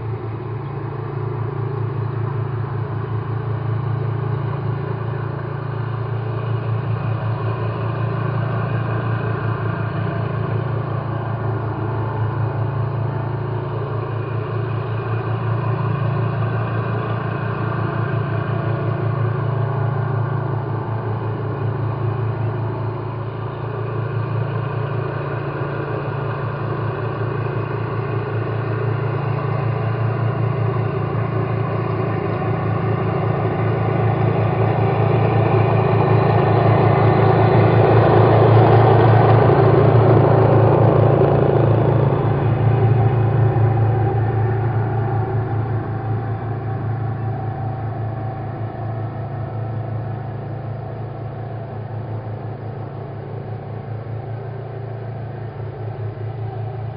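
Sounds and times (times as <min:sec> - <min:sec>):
low pulsing mechanical drone: 0:00.0 - 0:56.9.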